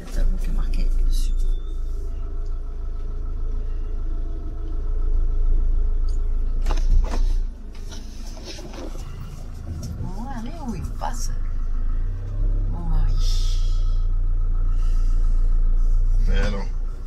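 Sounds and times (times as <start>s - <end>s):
engine and cabin rumble: 0.0s - 17.0s.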